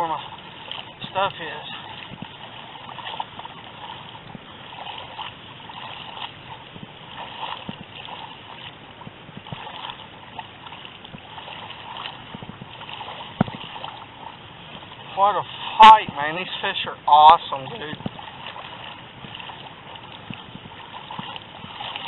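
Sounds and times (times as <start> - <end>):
rushing river water: 0.0 - 22.0
water splashing: 0.0 - 22.0.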